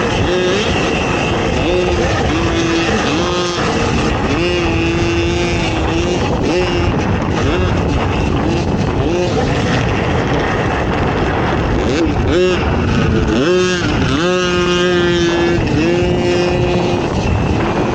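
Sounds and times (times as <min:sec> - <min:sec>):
quad bike engine revving: 0:00.0 - 0:17.9.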